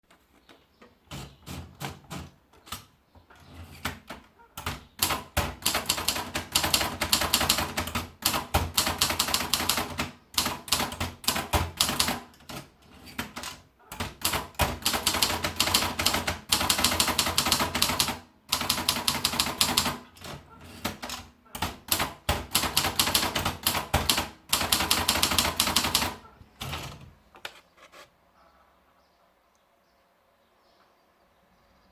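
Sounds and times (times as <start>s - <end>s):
manual typewriter typing: 1.1s - 27.1s.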